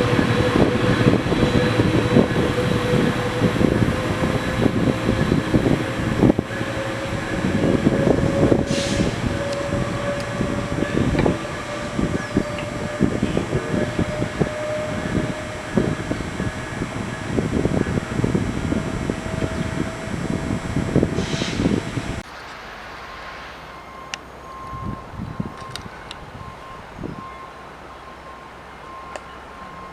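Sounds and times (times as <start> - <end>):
steady rising whine: 0.0 - 27.4.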